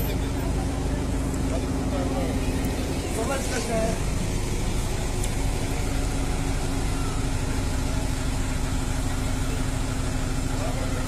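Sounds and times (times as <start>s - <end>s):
fire truck engine rumbling: 0.0s - 11.0s.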